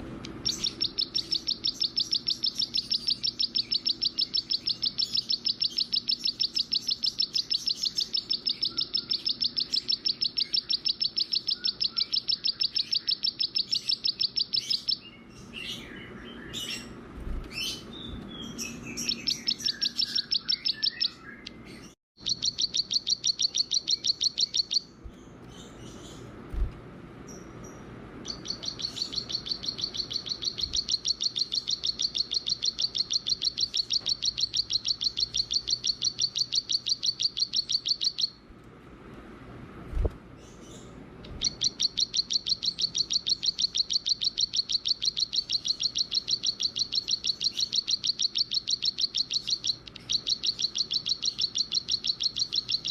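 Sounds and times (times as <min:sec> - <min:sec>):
songbird trilling: 0:00.4 - 0:26.3, 0:27.3 - 0:38.4, 0:40.4 - 0:52.9
bird chirps: 0:00.4 - 0:38.4, 0:40.4 - 0:52.9.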